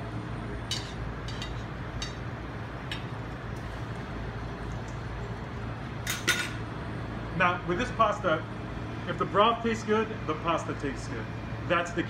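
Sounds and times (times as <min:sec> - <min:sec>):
kitchen machinery hum: 0:00.0 - 0:12.0.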